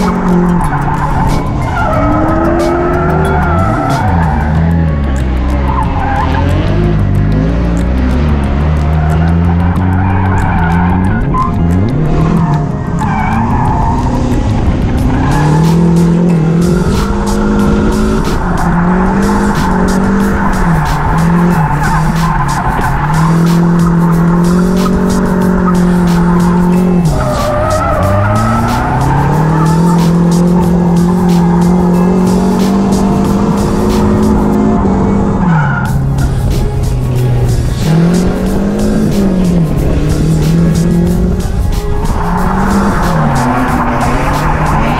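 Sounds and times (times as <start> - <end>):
car engine revving high: 0.0 - 44.9.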